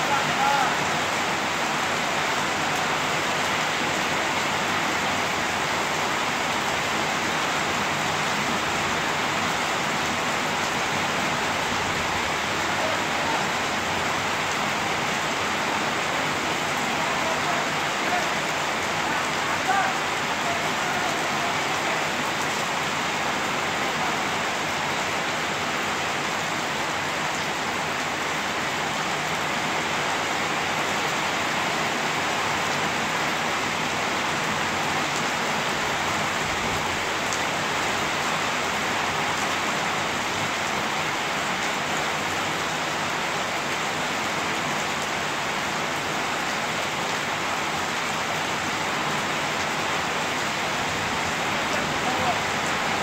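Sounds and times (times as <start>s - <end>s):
heavy rain on paving stones: 0.0s - 53.0s.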